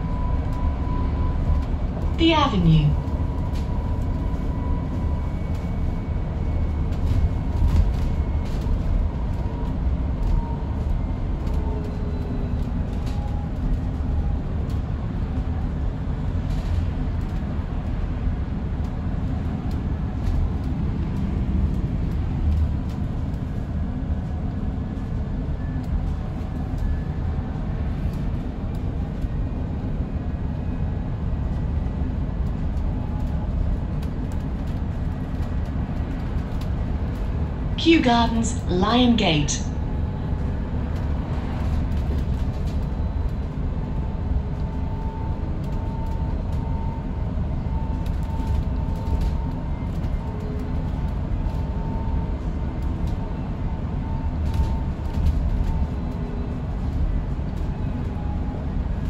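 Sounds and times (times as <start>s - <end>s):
bus road and tyre rumble: 0.0s - 38.0s, 39.6s - 59.0s.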